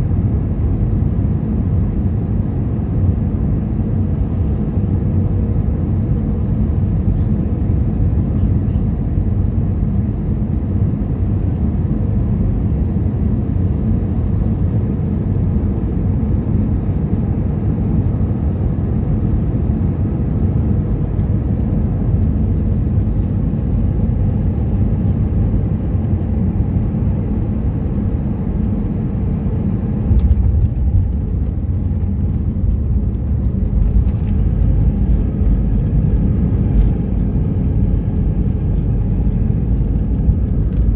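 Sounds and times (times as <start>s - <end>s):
engine and airflow rumble in cabin: 0.0s - 40.9s.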